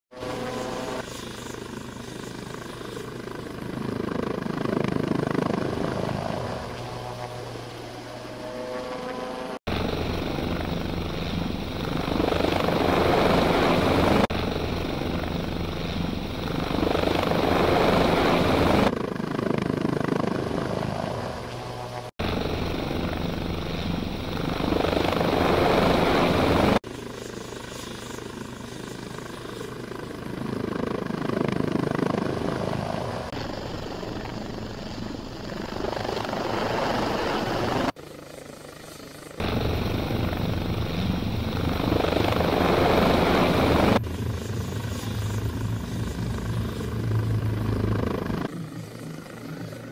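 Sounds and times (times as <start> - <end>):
helicopter rotor and engine: 0.1 - 49.9.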